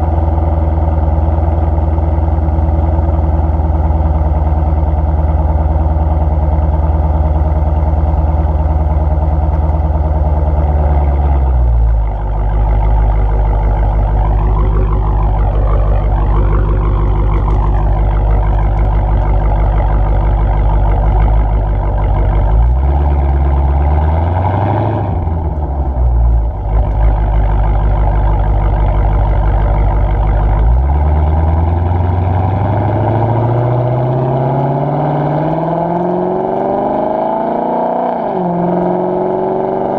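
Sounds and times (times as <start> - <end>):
car engine exhaust while driving: 0.0 - 39.9.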